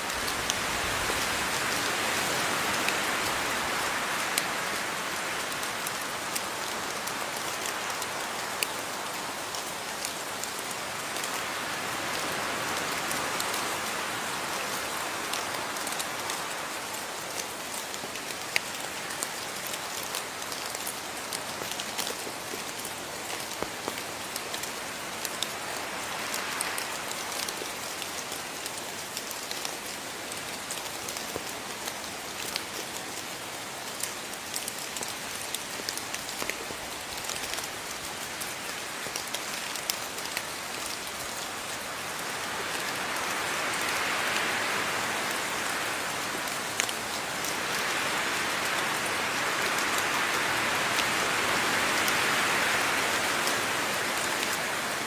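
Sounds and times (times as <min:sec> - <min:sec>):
rain drops ticking: 0:00.0 - 0:55.0.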